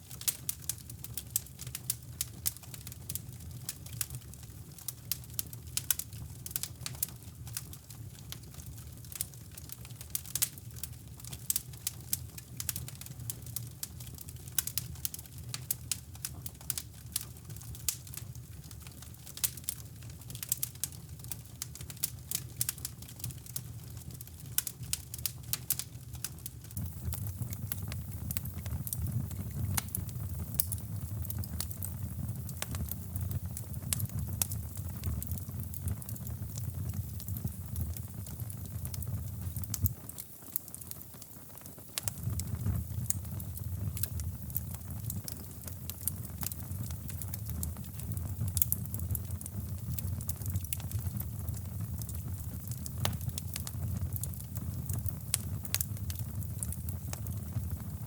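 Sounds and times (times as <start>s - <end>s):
fireplace fire crackling: 0.0s - 58.0s
low fire rumble: 0.0s - 58.0s.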